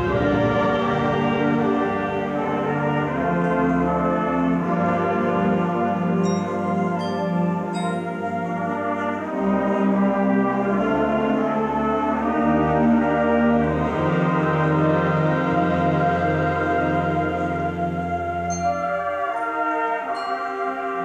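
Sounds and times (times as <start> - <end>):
symphonic band playing chords: 0.0 - 21.0.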